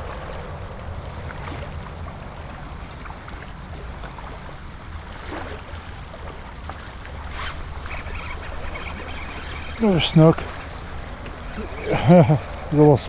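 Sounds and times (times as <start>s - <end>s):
water sloshing from wading: 0.0s - 13.0s.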